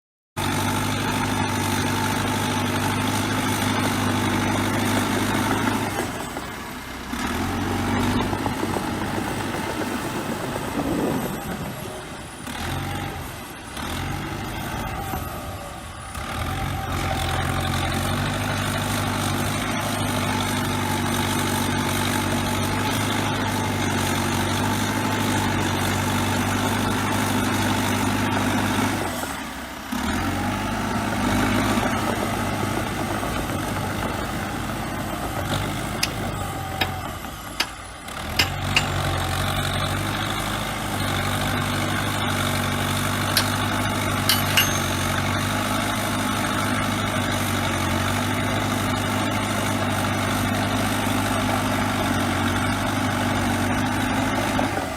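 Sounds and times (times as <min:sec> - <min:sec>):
bulldozer diesel engine running: 0:00.4 - 0:54.9.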